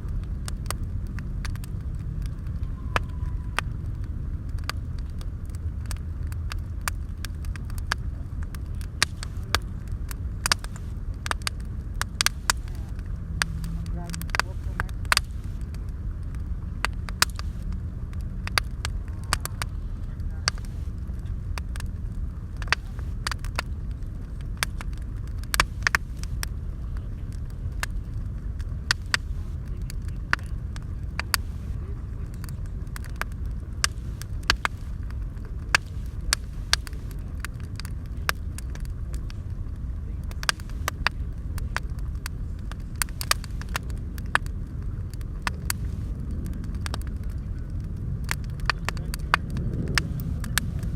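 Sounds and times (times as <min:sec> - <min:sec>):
bonfire crackling and popping: 0:00.0 - 0:50.9
low rumble: 0:00.0 - 0:50.9.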